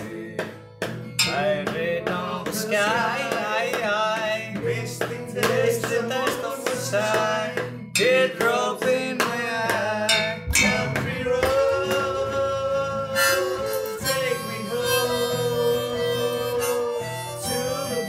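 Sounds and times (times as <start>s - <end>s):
guitars strumming: 0.0s - 18.0s.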